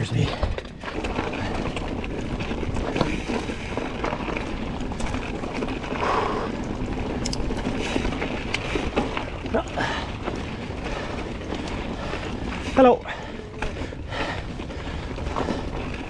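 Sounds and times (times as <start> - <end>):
bike rolling on rocky trail: 0.0 - 16.0.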